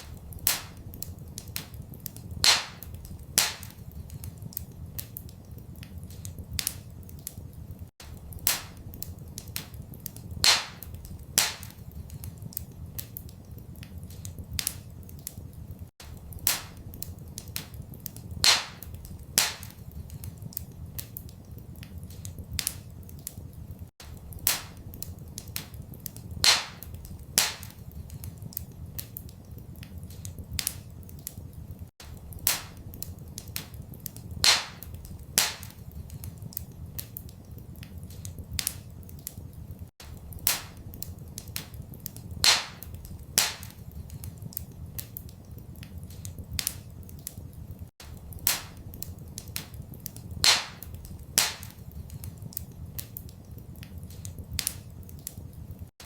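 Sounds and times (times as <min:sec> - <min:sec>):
fireplace fire crackling: 0:00.0 - 0:56.0
low rumble of fire: 0:00.0 - 0:56.0.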